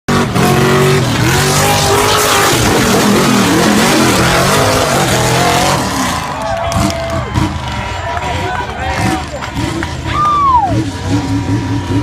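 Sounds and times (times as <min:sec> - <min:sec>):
truck engine revving hard: 0:00.1 - 0:12.0.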